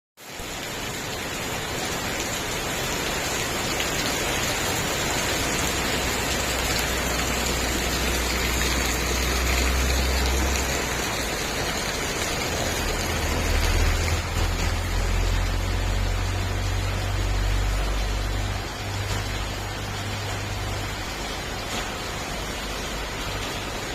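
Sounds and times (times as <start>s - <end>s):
rain falling: 0.2s - 23.9s.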